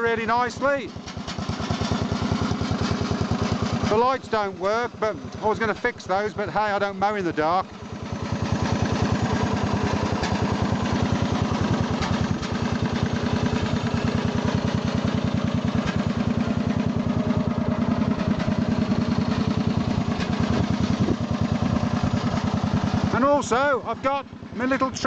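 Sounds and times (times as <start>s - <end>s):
lawn tractor engine idling: 0.0s - 25.0s.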